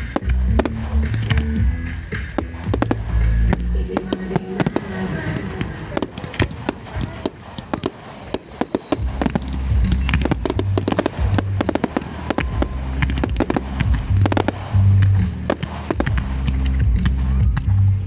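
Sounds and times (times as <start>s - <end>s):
bass-heavy music: 0.0s - 6.1s, 9.0s - 18.0s
fireworks popping and crackling: 0.0s - 17.9s.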